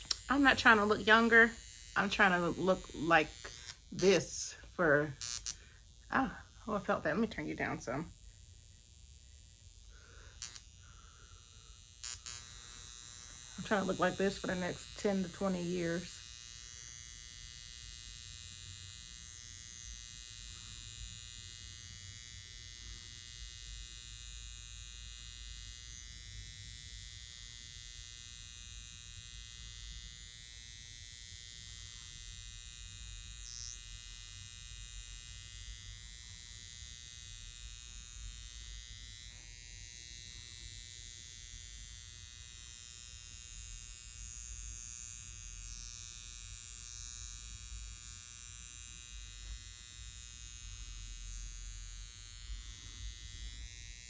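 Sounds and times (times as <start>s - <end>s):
facial machine buzzing with whine: 0.0s - 54.0s.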